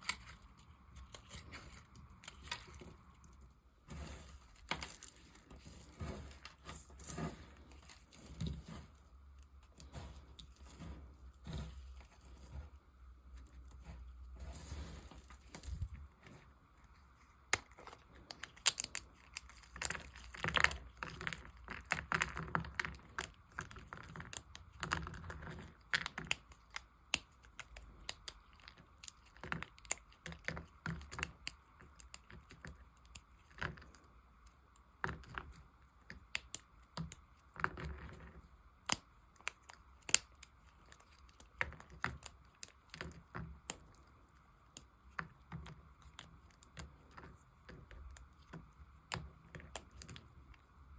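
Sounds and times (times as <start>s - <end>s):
knife carving bar soap: 0.0s - 50.9s.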